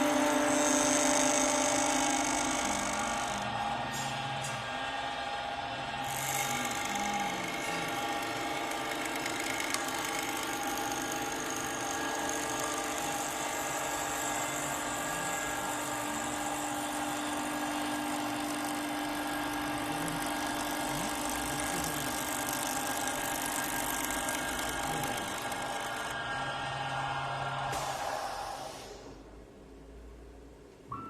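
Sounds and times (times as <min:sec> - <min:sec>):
wood lathe motor whine: 0:00.0 - 0:28.9.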